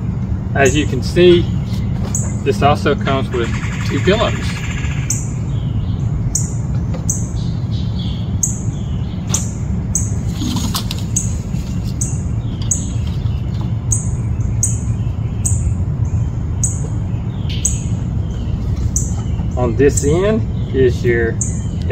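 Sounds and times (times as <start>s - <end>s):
bird chirping: 0.0s - 21.9s
low background rumble: 0.0s - 21.9s.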